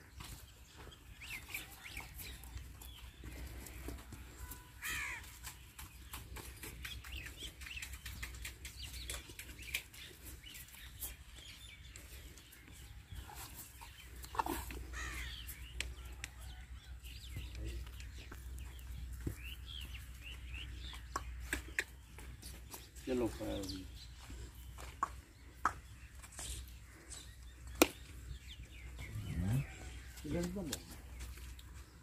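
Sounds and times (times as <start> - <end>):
farmyard birds calling: 0.0 - 32.0.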